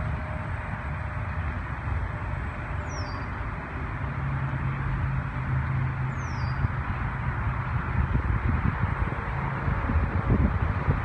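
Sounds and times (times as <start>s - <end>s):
distant locomotive rumble: 0.0s - 11.0s
rushing background noise: 0.0s - 11.0s.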